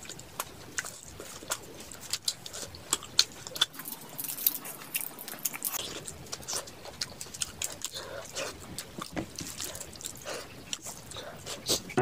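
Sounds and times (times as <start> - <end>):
biting into fried fish: 0.0 - 12.0
chewing with mouth smacks: 0.0 - 12.0.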